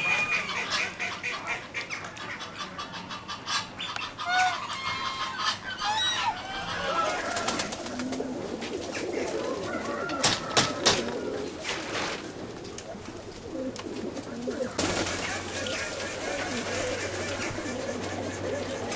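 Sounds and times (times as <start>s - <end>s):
fowl squawking and clucking: 0.0s - 18.9s
pigeons cooing: 0.0s - 18.9s.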